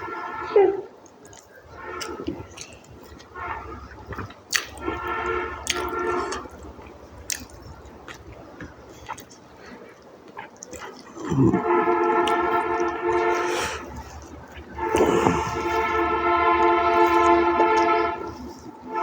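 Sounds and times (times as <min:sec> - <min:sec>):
mouth clicks: 0:01.0 - 0:19.0
wet chewing and squishing: 0:01.0 - 0:19.0.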